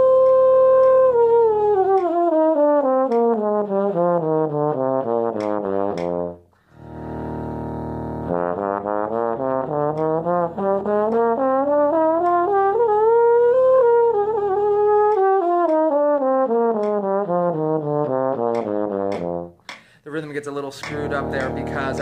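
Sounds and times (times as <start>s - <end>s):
bass trombone playing scales: 0.0s - 19.6s, 20.8s - 22.0s.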